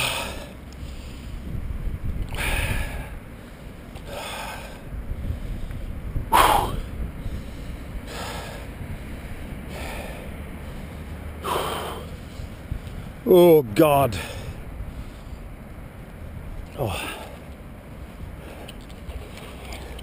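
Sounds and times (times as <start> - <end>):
man breathing heavily: 0.0 - 1.6, 2.3 - 13.3, 13.9 - 15.6, 16.7 - 18.8
wind rumble on microphone: 0.0 - 20.0.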